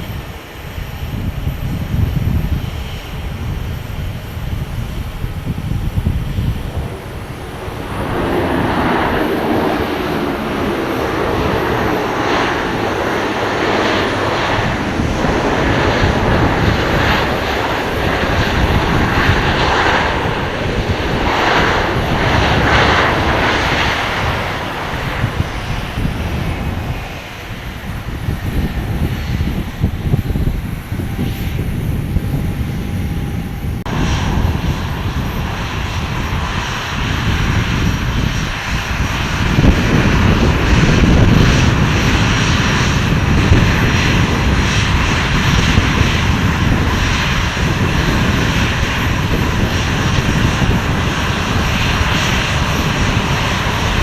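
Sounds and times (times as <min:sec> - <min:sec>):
airliner engines roaring: 0:00.0 - 0:54.0.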